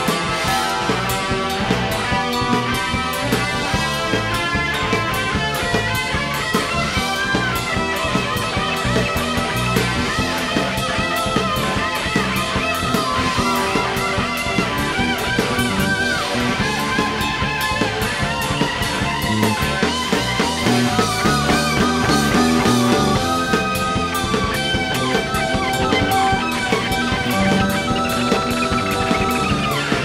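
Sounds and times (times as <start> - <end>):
electric guitar lead bending pitch: 0.0 - 30.0
instrumental rock band playing: 0.0 - 30.0
steady drum beat: 0.0 - 30.0.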